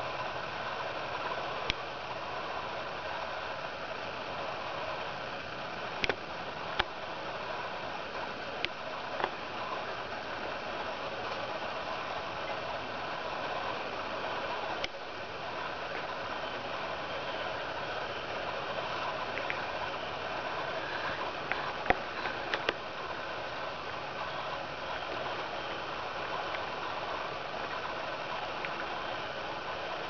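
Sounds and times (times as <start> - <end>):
engine-like hum: 0.0 - 30.0.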